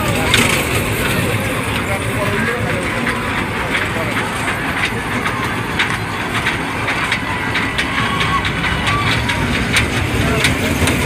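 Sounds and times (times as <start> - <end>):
fair crowd noise: 0.0 - 11.0
kiddie train clicking on track: 0.0 - 11.0.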